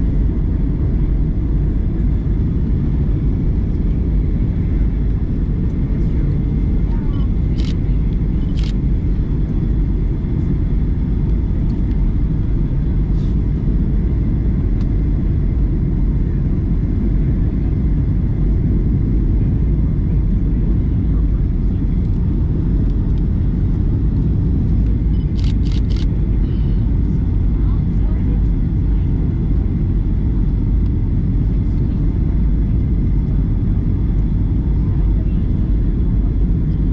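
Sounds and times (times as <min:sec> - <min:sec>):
airliner cabin rumble: 0:00.0 - 0:36.9.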